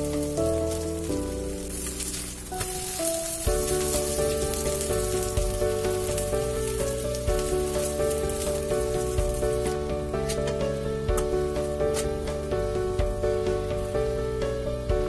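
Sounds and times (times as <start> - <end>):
background music of held notes: 0.0 - 15.0
pancake sizzling in hot oil: 0.0 - 15.0.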